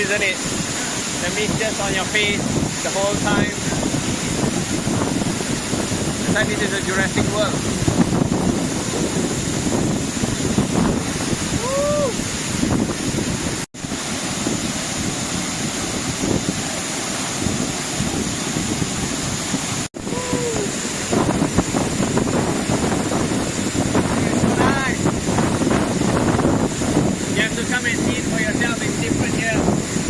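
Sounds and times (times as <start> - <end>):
waterfall rushing: 0.0 - 30.0
wind buffeting microphone: 0.0 - 30.0.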